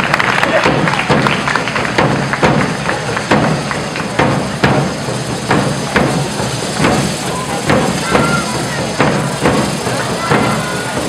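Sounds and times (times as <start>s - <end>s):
drum beating steady rhythm: 0.0s - 11.0s
fireworks hissing and crackling: 0.0s - 11.0s.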